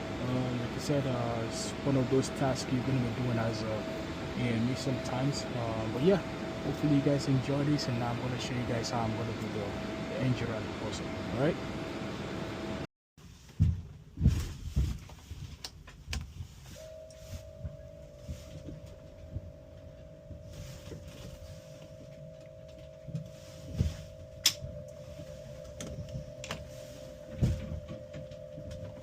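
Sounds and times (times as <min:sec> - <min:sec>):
second electrical tone: 0:00.0 - 0:12.8, 0:16.5 - 0:29.0
steady electrical tone: 0:00.0 - 0:12.9, 0:16.5 - 0:29.0.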